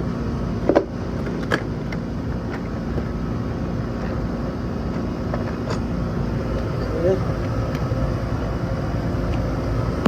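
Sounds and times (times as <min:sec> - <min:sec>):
air-conditioner unit running: 0:00.0 - 0:10.0.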